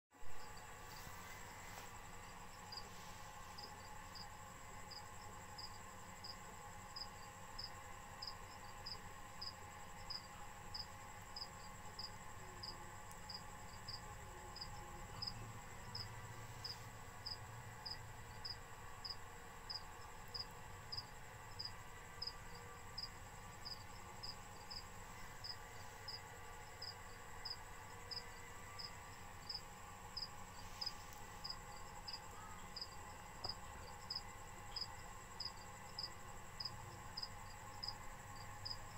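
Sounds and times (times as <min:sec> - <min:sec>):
faint high whine: 0:00.2 - 0:38.9
cricket chirping: 0:00.3 - 0:38.9.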